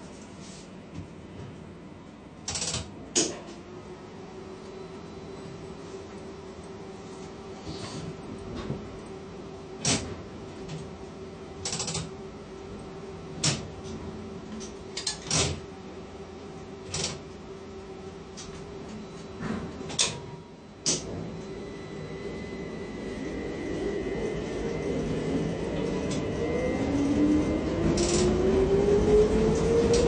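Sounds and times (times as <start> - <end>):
crane machine hum: 1.1 - 30.0.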